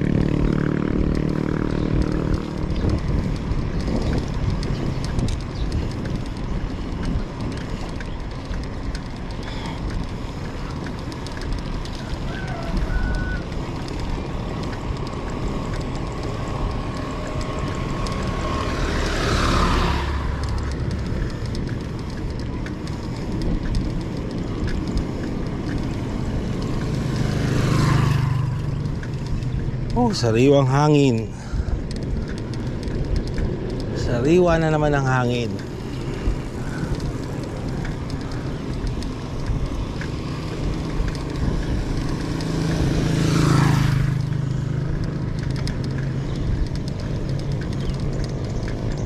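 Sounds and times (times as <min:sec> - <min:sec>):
vehicle road and engine noise: 0:00.0 - 0:49.0
vehicles whooshing past: 0:00.0 - 0:49.0.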